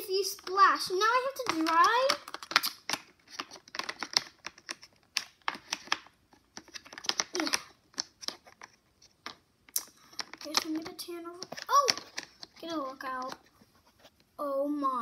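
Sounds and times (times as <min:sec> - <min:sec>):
plastic toys clicking and tapping: 0:00.2 - 0:13.5.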